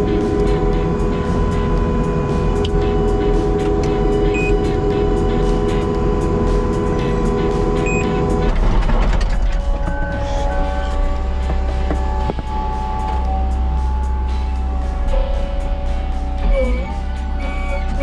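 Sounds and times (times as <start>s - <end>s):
background music: 0.0s - 18.0s
diesel engine running under load: 0.0s - 18.0s.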